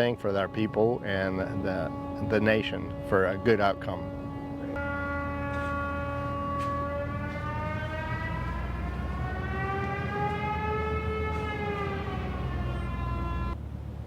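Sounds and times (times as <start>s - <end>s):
aircraft engine drone: 0.0s - 14.0s.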